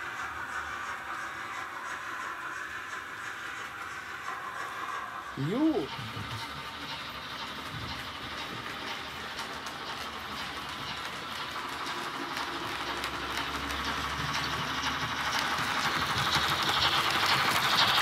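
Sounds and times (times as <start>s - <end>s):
model train wheels rattling on rails: 0.0s - 18.0s.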